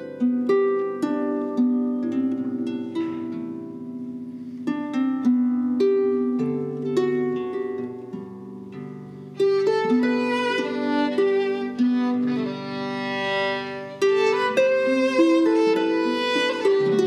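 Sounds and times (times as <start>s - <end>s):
harp melody: 0.0s - 17.0s.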